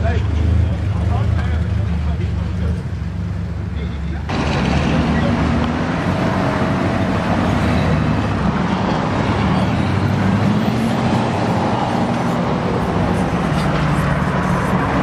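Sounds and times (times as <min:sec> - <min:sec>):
dense background noise: 0:00.0 - 0:15.0.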